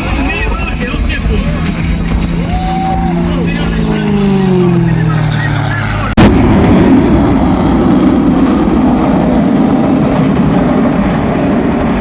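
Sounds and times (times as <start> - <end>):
aircraft engines flying past: 0.0 - 12.0.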